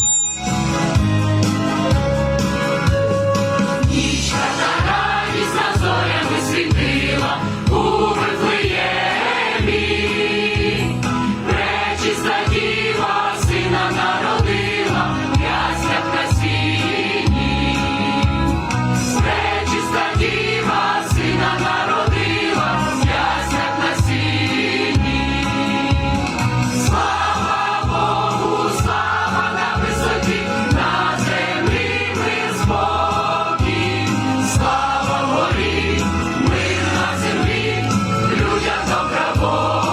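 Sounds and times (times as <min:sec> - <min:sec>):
instrumental accompaniment with beat: 0:00.0 - 0:39.9
church choir singing a carol: 0:03.9 - 0:18.2, 0:19.1 - 0:26.2, 0:26.8 - 0:39.9.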